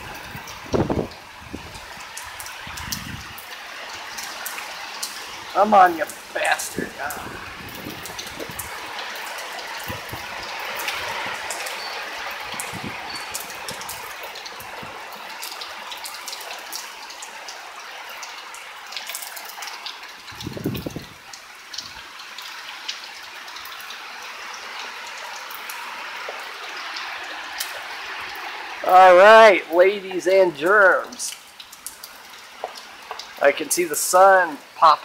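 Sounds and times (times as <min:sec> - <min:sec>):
close drips and splatters: 0:00.0 - 0:35.0
heavy rain hiss: 0:00.0 - 0:35.0.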